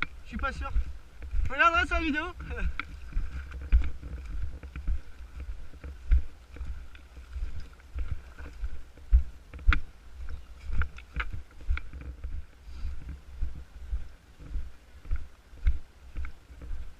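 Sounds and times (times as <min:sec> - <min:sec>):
low thumps and knocks: 0:00.0 - 0:16.9.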